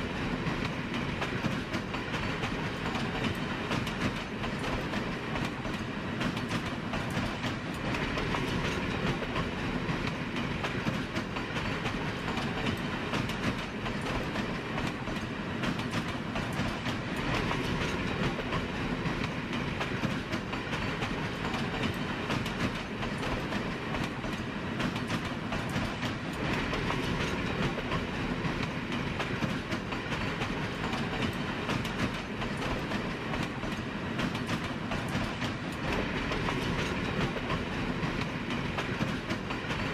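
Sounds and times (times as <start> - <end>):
train wheels on track: 0.0 - 39.9.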